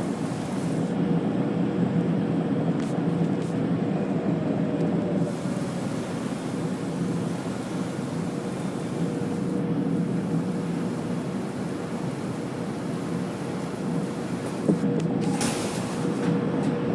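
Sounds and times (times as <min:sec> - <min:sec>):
subway train rumbling: 0:00.0 - 0:16.9
train whine: 0:00.0 - 0:16.9.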